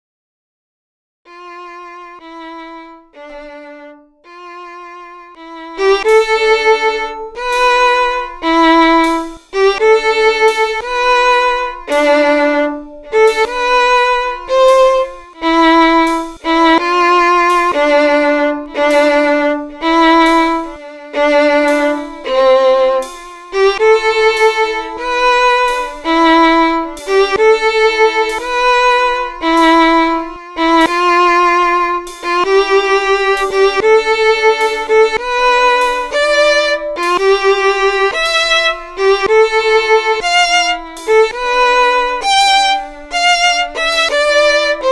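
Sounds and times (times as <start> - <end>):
solo violin slow melody: 1.3 - 44.9.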